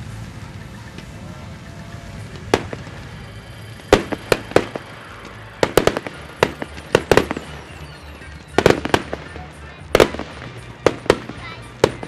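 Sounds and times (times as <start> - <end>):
low rumble: 0.0 - 11.9
fireworks bangs: 0.0 - 12.0.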